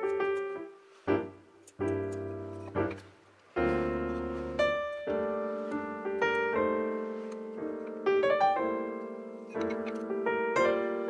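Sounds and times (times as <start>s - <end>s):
piano notes and chords: 0.0s - 11.0s.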